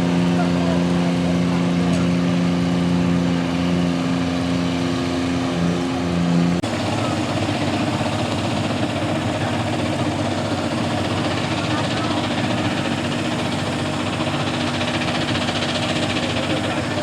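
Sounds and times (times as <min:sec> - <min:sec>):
engine running steadily: 0:00.0 - 0:17.0
rough noisy engine: 0:00.0 - 0:17.0.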